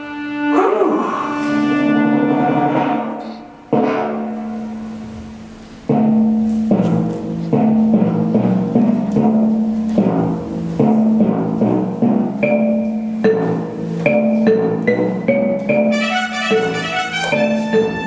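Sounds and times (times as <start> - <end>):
instrumental music with repeating notes: 0.0 - 18.0.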